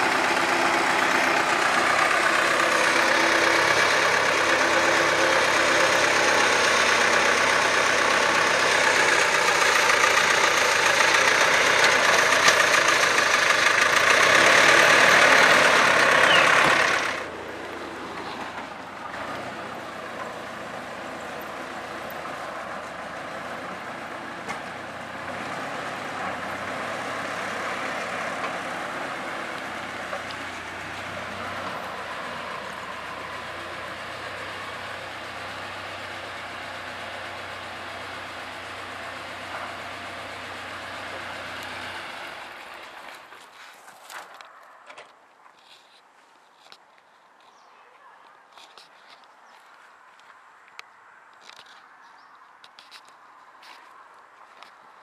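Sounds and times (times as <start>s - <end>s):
tractor diesel engine idling: 0.0s - 44.5s.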